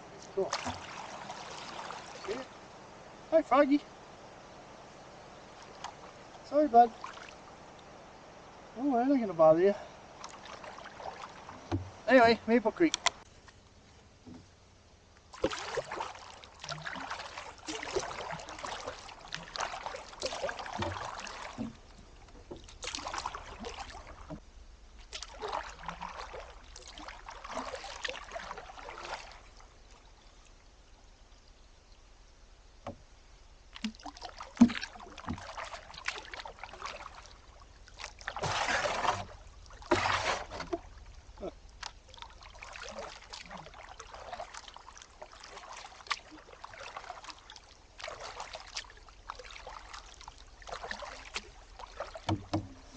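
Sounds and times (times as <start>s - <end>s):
canoe paddle strokes in water: 0.0s - 52.9s
water trickling off paddle: 0.0s - 52.9s.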